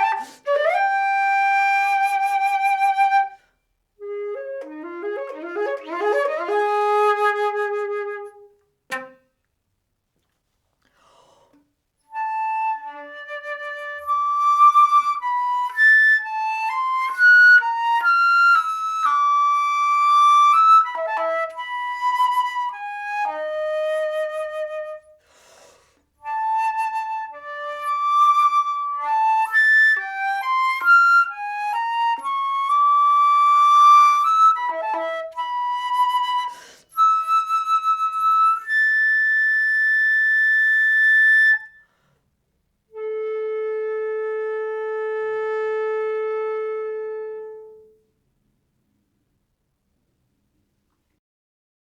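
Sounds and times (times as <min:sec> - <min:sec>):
solo flute playing: 0:00.0 - 0:09.4, 0:12.0 - 0:25.2, 0:26.2 - 0:42.0, 0:42.9 - 0:48.1.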